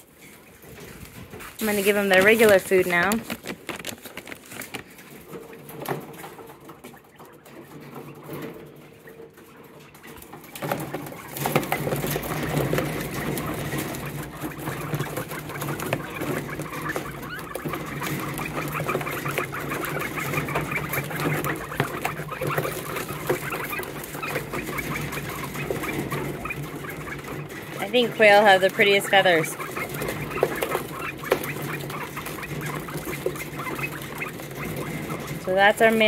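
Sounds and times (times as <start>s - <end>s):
quail pecking at grain: 0.0s - 36.0s
bird calls: 1.6s - 36.0s.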